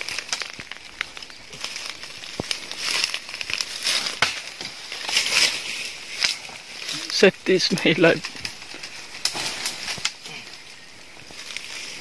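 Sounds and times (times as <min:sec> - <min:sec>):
branch cracking: 0:00.0 - 0:12.0
leaves and twigs rustling: 0:00.0 - 0:12.0.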